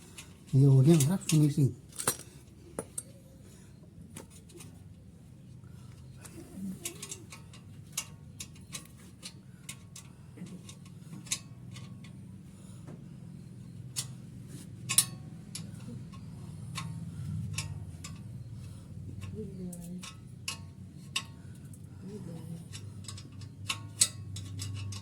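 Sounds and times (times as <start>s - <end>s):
metal tools clicking and tapping: 0.0s - 3.2s, 6.0s - 12.4s, 13.7s - 25.0s
low steady hum: 0.0s - 25.0s.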